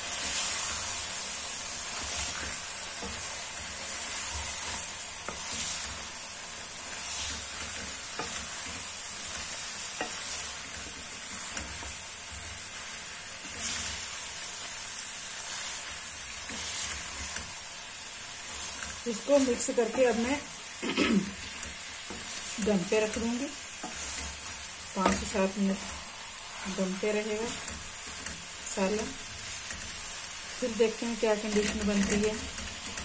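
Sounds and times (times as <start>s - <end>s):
food sizzling in a pan: 0.0s - 33.0s
spoon scraping a pan: 1.9s - 14.2s, 18.3s - 33.0s.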